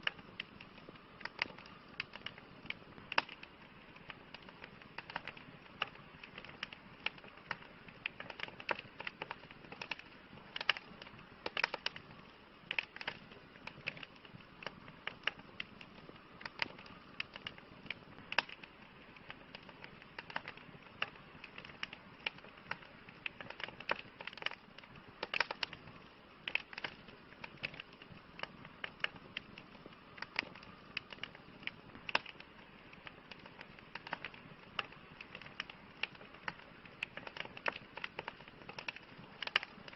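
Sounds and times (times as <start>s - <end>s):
campfire crackling and popping: 0.0s - 39.9s
soft steady hiss: 0.0s - 39.9s.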